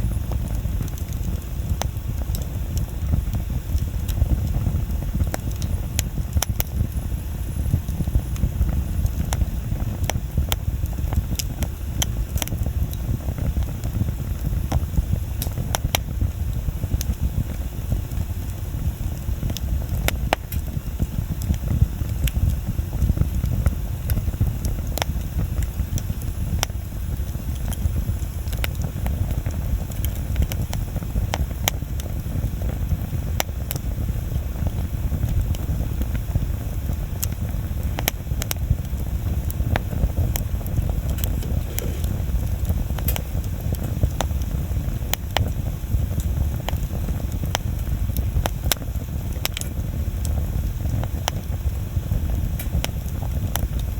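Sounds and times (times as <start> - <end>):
low rumble of fire: 0.0 - 53.9
wood bonfire crackling: 0.0 - 53.9.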